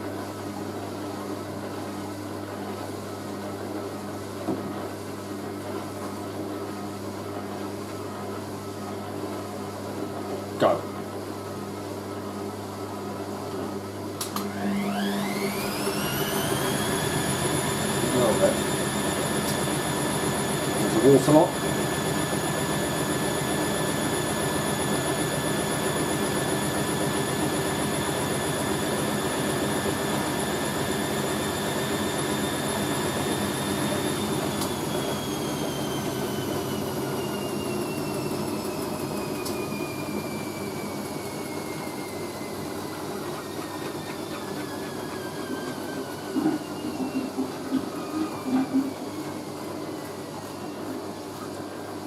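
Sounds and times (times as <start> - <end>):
washing machine spinning: 0.0 - 52.0.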